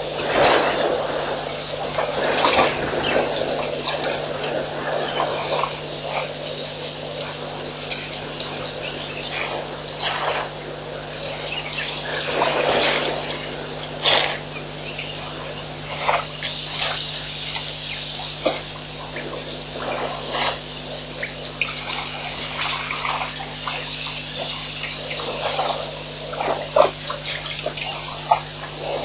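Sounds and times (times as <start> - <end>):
elephant drinking water splashing: 0.0 - 29.0.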